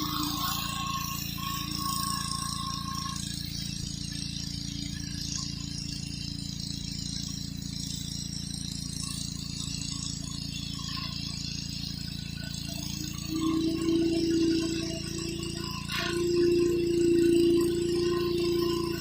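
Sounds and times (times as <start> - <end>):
high-pressure water spray hissing: 0.0 - 19.0
pressure washer engine running: 0.0 - 19.0.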